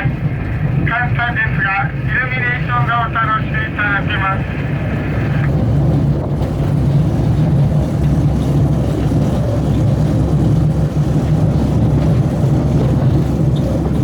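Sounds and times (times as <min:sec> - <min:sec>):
rail cart engine and wheel rumble: 0:00.0 - 0:14.0.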